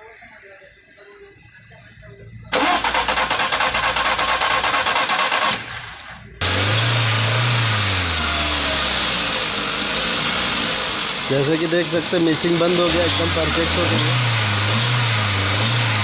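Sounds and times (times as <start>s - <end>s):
car engine revving and idling: 2.5s - 16.0s
starter motor cranking: 2.5s - 16.0s.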